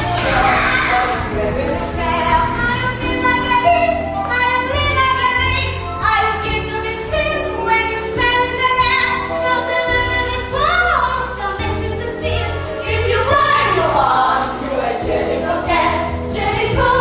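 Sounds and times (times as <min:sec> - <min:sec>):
musical accompaniment: 0:00.0 - 0:17.0
young voices singing: 0:00.0 - 0:17.0.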